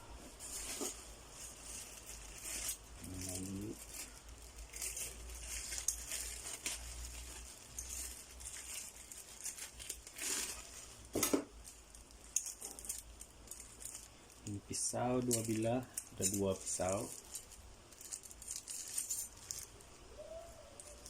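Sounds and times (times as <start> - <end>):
plastic packaging crinkling: 0.3 - 21.0.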